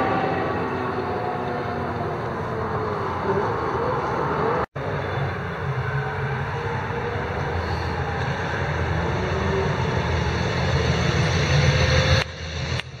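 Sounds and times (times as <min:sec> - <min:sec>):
car engine rumbling past: 0:00.0 - 0:12.9.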